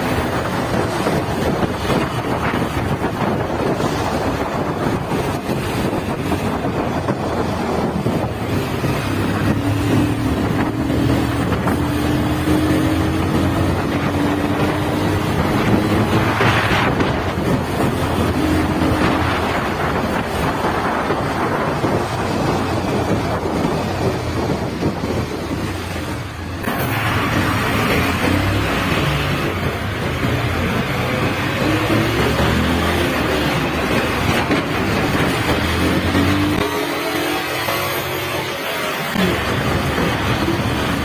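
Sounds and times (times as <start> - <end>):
wind noise on microphone: 0.0 - 41.0.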